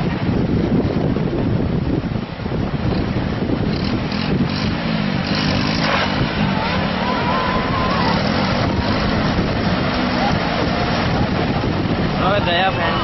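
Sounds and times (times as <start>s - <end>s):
traffic engines running: 0.0s - 13.0s.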